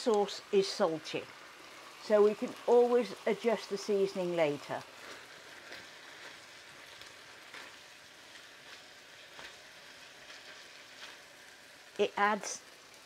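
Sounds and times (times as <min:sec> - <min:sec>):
peppers sizzling in a pan: 0:00.0 - 0:13.0.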